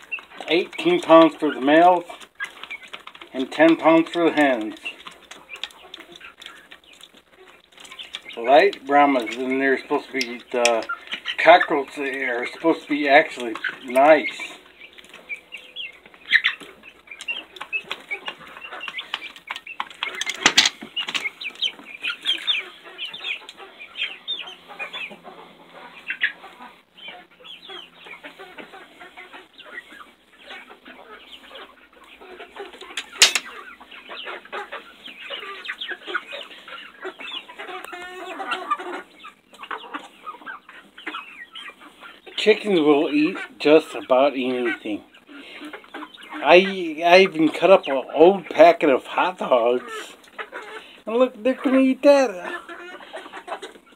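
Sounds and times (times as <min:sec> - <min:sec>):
chickens clucking and peeping: 0:00.0 - 0:53.9.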